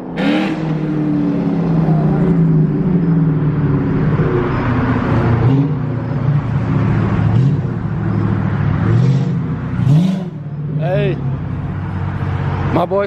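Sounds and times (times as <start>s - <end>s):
car engine running rough: 0.0s - 13.0s.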